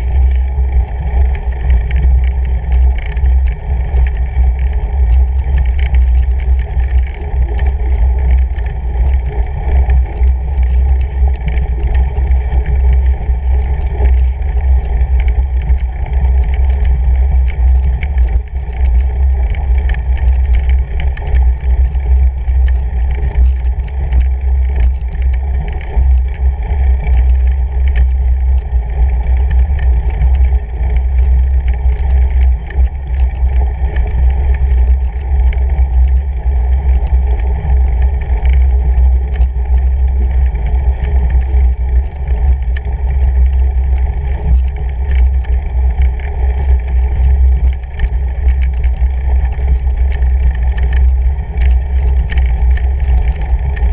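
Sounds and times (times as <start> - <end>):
bike tyre rumbling over snow: 0.0 - 53.9
faint small ticks: 0.1 - 53.9.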